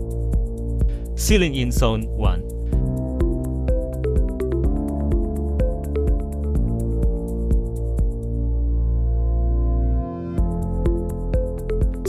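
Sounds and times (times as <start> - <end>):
electronic music with steady beat: 0.0 - 8.4, 10.4 - 12.0.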